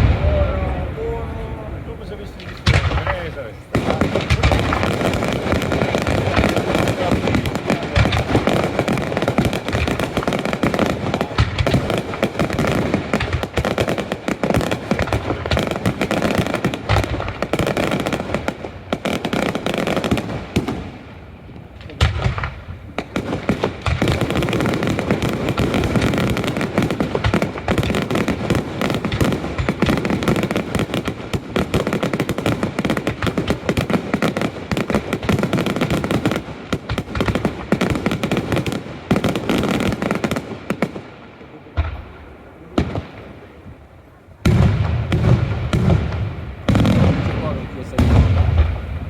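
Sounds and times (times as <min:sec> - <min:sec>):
fireworks crackling and banging: 0:00.0 - 0:49.0.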